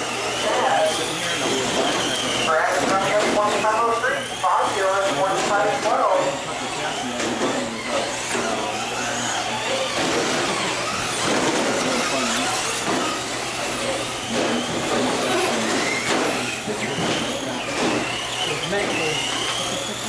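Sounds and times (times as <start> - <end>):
electric motor whines: 0.0 - 20.0
toy car motor and drivetrain noise: 0.0 - 20.0.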